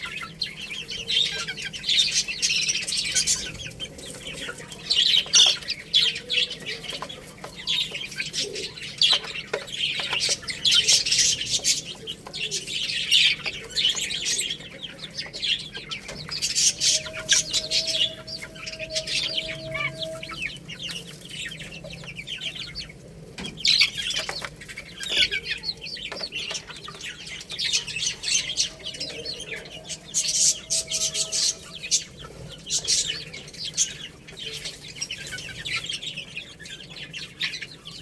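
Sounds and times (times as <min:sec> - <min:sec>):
baby chicks peeping: 0:00.0 - 0:38.0.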